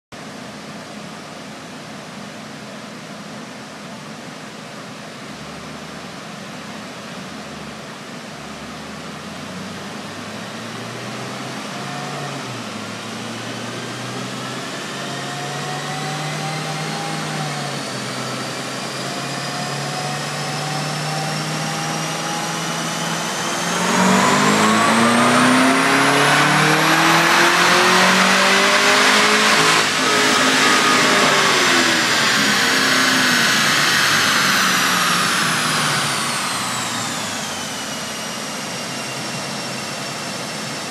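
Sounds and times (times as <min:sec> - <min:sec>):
car engine revving on dyno: 0:05.3 - 0:40.9
rising whine: 0:05.3 - 0:40.9.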